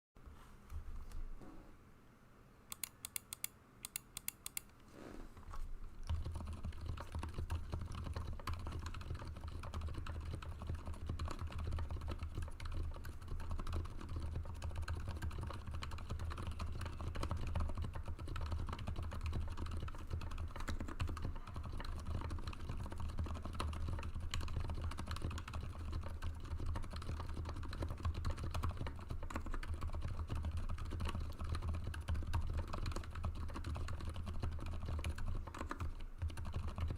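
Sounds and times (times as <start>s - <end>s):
fast typing on mechanical keyboard: 6.0s - 36.9s.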